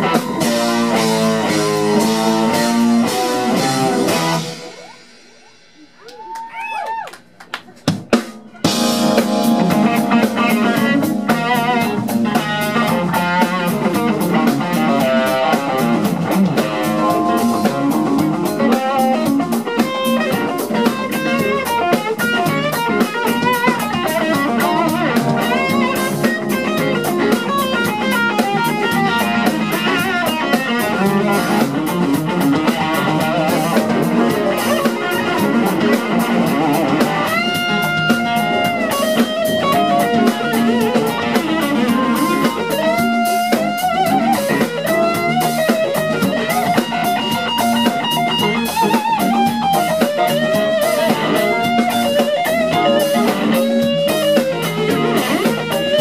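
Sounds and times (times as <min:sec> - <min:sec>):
drum kit groove: 0:00.0 - 0:56.0
electric guitar fast runs: 0:08.7 - 0:56.0.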